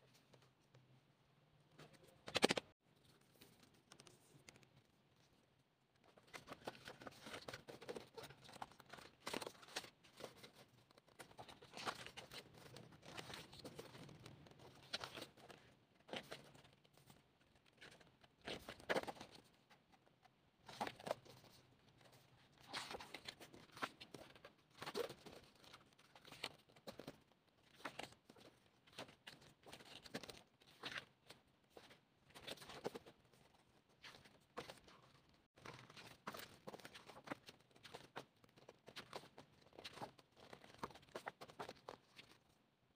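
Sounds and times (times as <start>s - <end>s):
pages turning and rustling: 1.8s - 4.8s, 6.0s - 19.6s, 20.6s - 42.6s.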